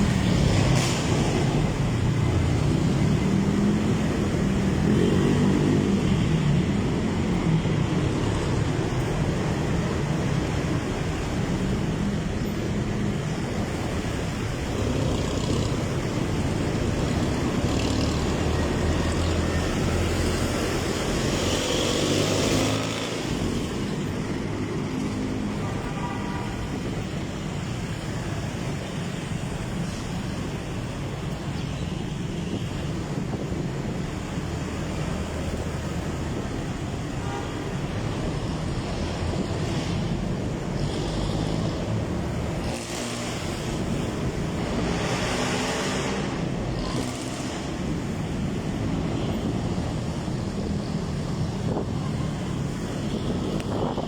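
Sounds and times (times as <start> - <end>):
road and wind noise: 0.0 - 54.0.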